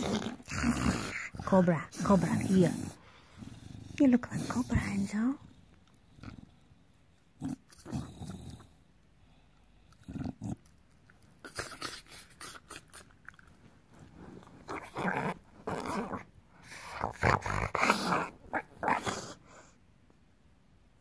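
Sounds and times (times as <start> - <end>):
dog growling: 0.0 - 8.9, 9.8 - 10.8, 11.4 - 19.7.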